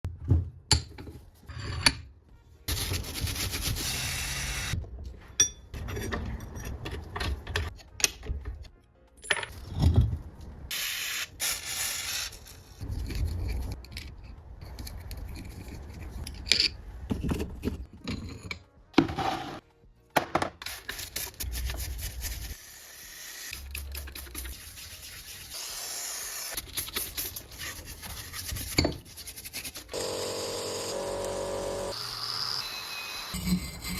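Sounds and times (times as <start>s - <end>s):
background music: 0.1s - 29.9s.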